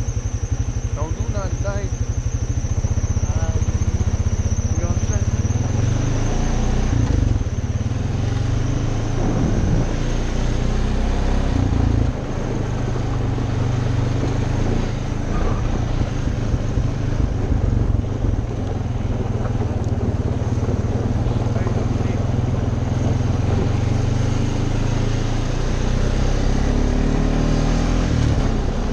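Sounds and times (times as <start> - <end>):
atv engine running: 0.0 - 28.9.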